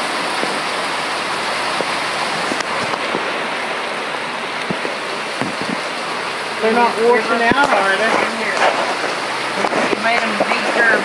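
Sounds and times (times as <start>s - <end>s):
heavy rain falling: 0.0s - 11.0s
raindrop taps: 0.3s - 0.7s, 1.7s - 3.7s, 4.5s - 11.0s.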